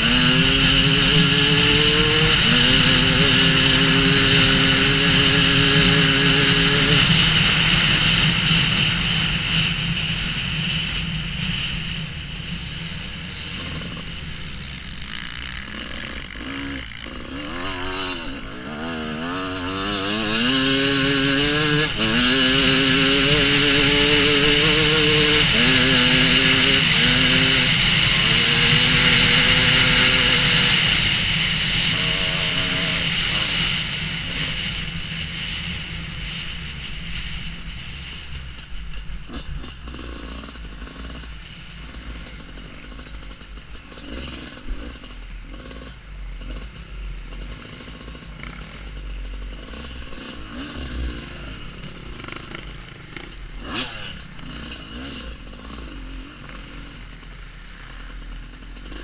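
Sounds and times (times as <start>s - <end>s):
dirt bike engine revving: 0.0s - 36.5s, 39.3s - 59.0s.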